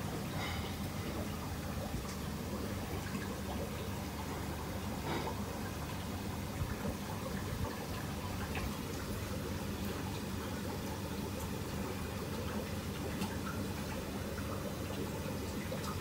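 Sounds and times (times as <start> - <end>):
water in a tank: 0.0 - 16.0.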